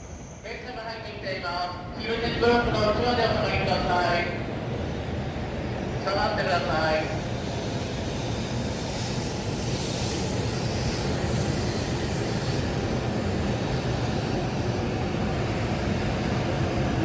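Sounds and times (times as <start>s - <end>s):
train rumble and air rush: 0.0s - 17.0s.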